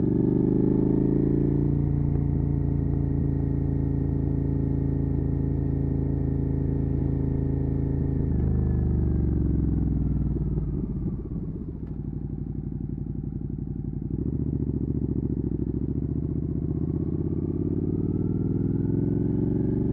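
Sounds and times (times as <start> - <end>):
motorcycle engine revving: 0.0 - 12.2, 14.0 - 19.9.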